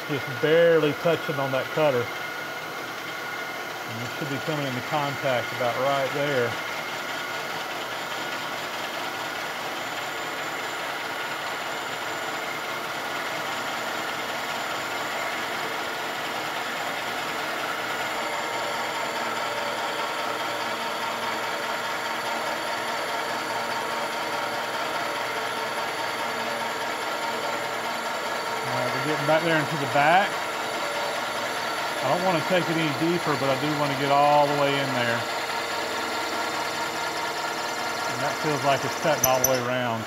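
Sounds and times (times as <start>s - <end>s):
milling machine cutting metal: 0.0s - 40.0s.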